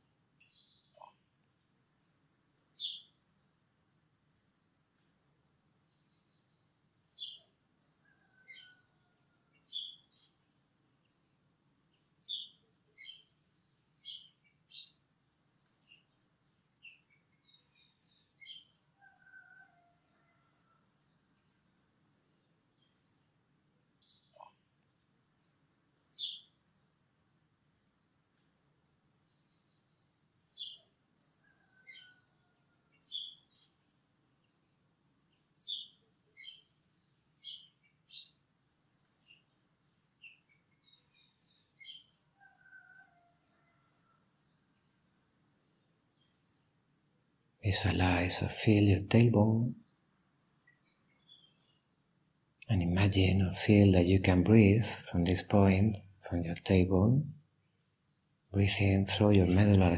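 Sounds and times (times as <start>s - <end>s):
small birds chirping: 0.0s - 23.4s, 24.0s - 46.9s, 47.6s - 59.9s.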